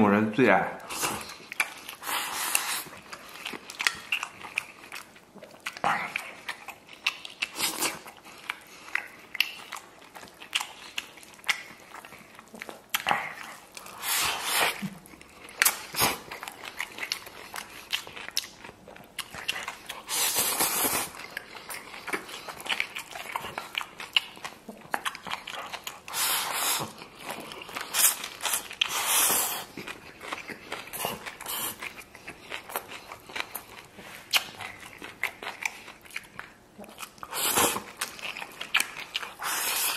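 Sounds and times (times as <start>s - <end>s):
wet chewing and lip smacks: 0.8s - 39.9s.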